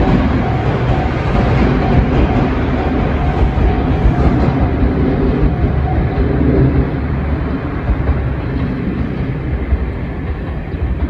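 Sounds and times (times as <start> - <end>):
faint engine drone: 0.0 - 11.0
train rumble: 0.0 - 11.0.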